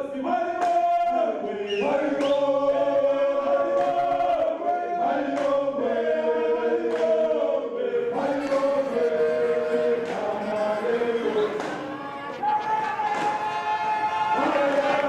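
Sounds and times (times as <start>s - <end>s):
choir singing held notes: 0.7s - 15.0s.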